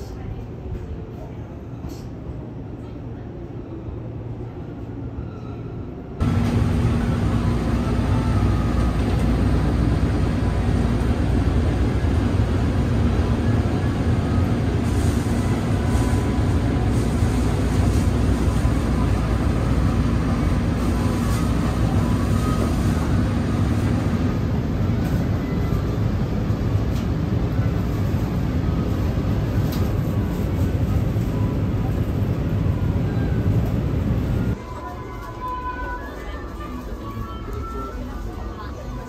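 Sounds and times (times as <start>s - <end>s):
station platform ambience: 0.0s - 39.0s
train car rumble and hum: 0.0s - 39.0s.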